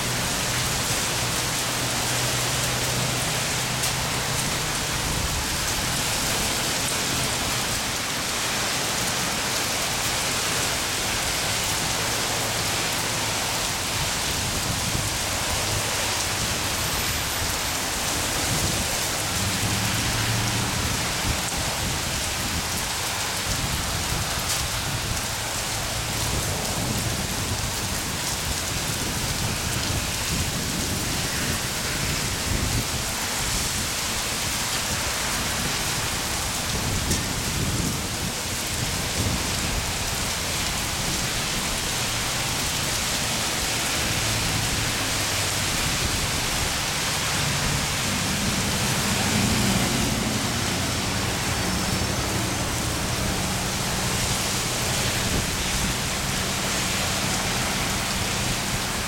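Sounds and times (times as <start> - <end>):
heavy rain on pavement and cars: 0.0 - 59.0.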